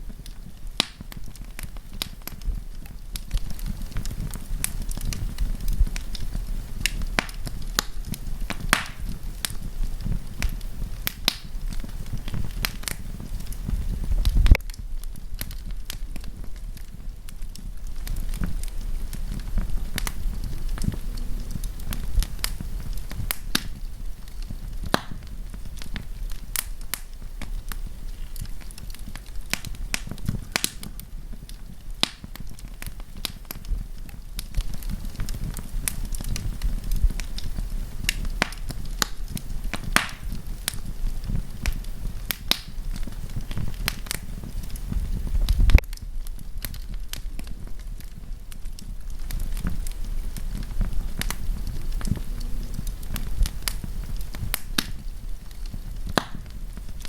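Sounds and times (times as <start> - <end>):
low rumble of flames: 0.0 - 57.0
wood crackling and popping: 0.0 - 57.0.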